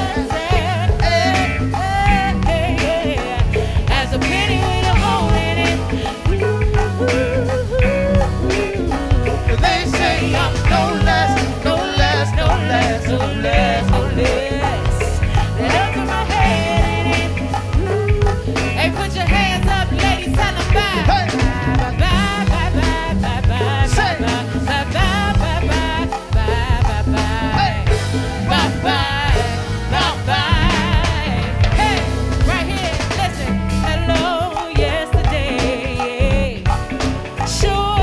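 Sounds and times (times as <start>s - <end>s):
lead singer singing: 0.0s - 38.0s
live band playing: 0.0s - 38.0s.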